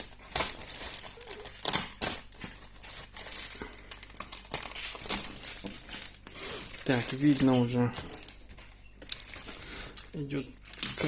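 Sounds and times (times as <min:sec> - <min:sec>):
packaging rustling: 0:00.0 - 0:11.0
packing tape scratching: 0:00.0 - 0:11.0.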